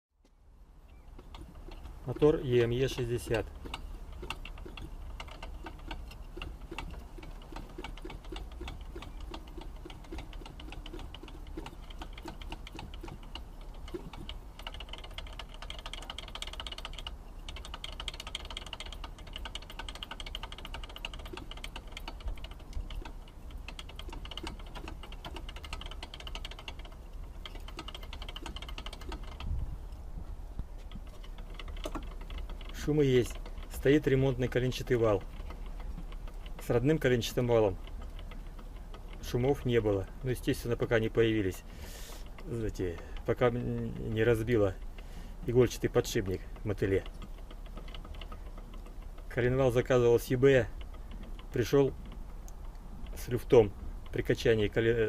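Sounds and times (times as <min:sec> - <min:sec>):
engine rapid clicking rattle: 0:00.2 - 0:55.0.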